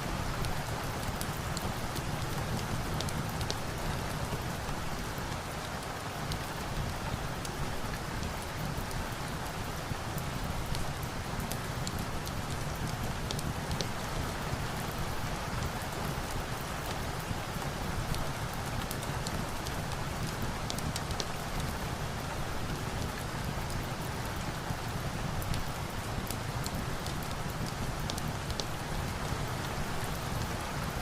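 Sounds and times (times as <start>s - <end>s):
steady rain: 0.0s - 31.0s
crackling log fire: 0.1s - 31.0s.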